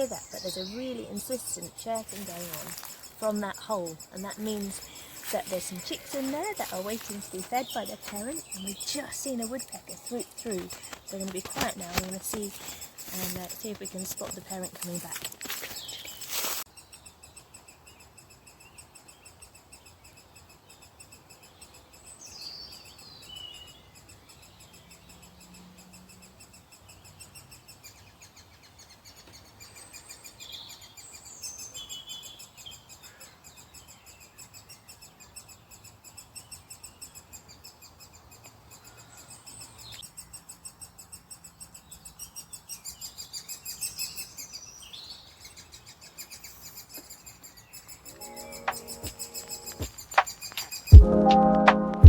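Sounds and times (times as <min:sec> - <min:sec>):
other birds calling: 0:00.0 - 0:20.2, 0:22.2 - 0:51.6
woodpecker chicks chirping: 0:00.0 - 0:51.9.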